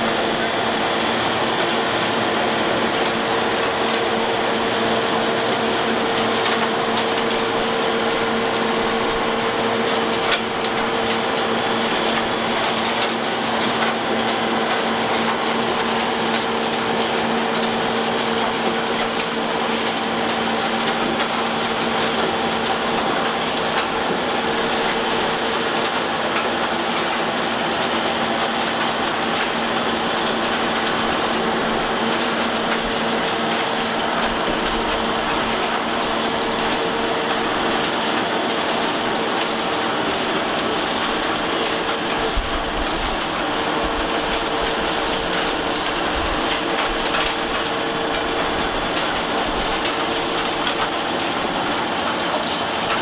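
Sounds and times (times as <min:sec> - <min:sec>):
machine mechanical hum: 0:00.0 - 0:53.0
dense clatter and rattle: 0:03.0 - 0:53.0.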